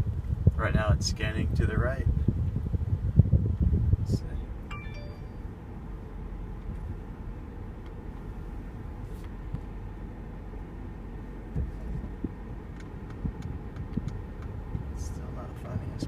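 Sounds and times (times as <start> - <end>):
car engine and tyre rumble: 0.0 - 4.7, 5.4 - 16.0.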